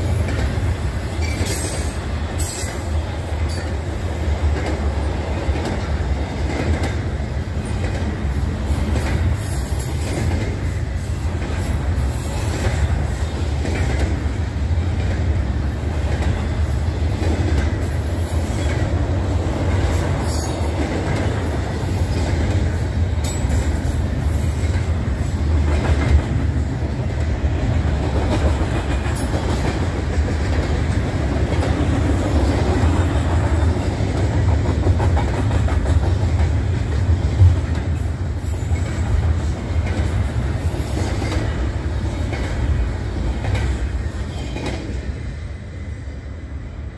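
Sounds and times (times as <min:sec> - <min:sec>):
wheels clacking on rail joints: 0:00.0 - 0:45.0
freight train rumbling: 0:00.0 - 0:46.9.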